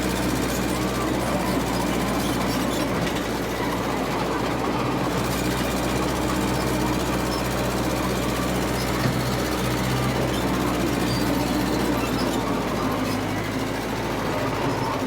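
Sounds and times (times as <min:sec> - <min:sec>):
diesel dozer engine droning: 0:00.0 - 0:15.0.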